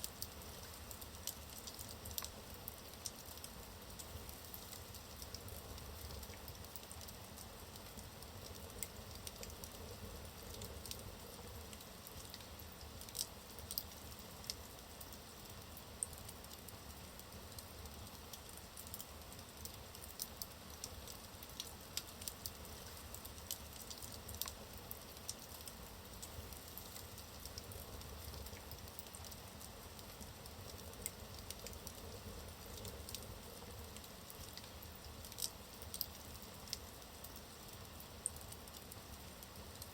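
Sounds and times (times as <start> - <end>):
burning wood crackling and popping: 0.0 - 39.9.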